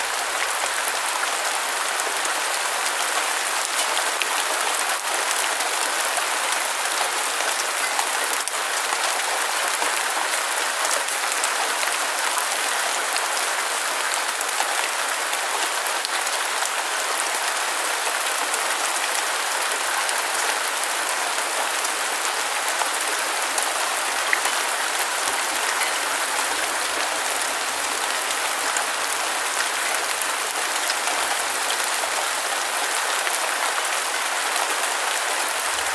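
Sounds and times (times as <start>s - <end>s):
steady rain hiss: 0.0s - 35.9s.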